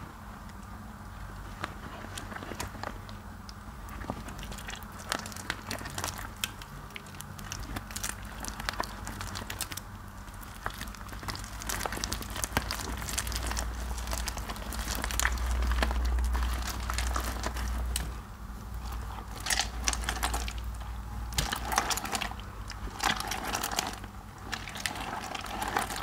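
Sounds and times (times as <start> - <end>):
wet soap paste squishing: 0.0 - 26.0.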